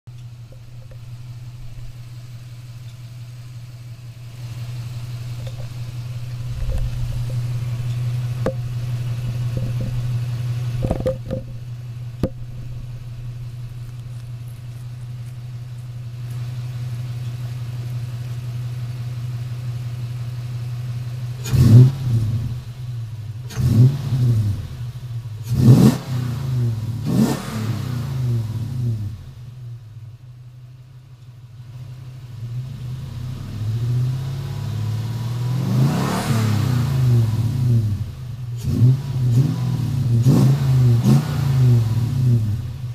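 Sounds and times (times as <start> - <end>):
engine idling and revving: 0.0 - 42.9.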